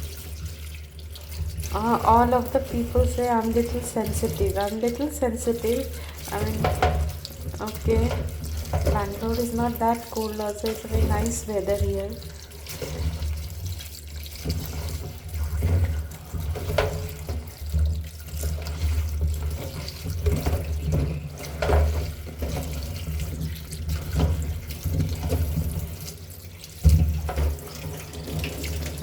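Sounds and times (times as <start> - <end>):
tap water running into sink: 0.0 - 29.0
water splashes: 0.0 - 29.0.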